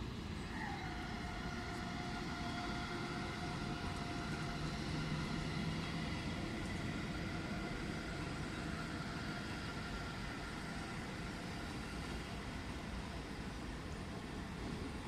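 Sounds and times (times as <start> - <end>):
faint whine: 0.0 - 15.0
train wheels rumbling on track: 0.0 - 15.0.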